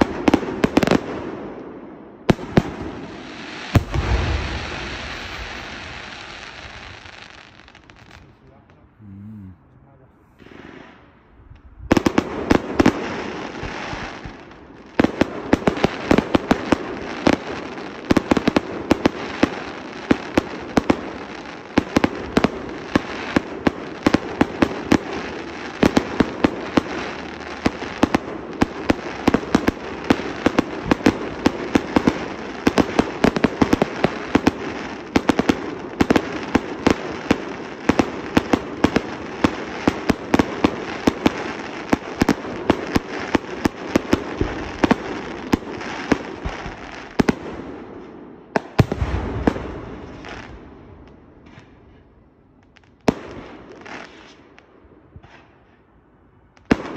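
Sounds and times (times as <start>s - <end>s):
fireworks bangs: 2.2s - 9.0s, 10.3s - 52.1s, 53.0s - 55.9s.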